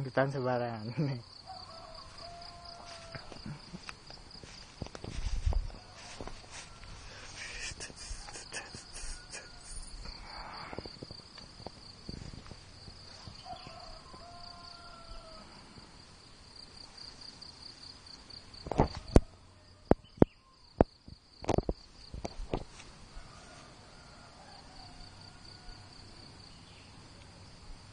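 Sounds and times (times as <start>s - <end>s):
high insect trill: 0.0s - 27.9s.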